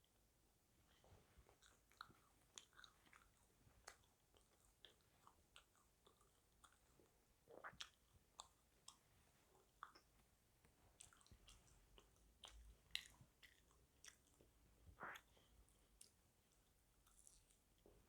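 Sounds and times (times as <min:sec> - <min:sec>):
person chewing food: 0:00.9 - 0:18.0.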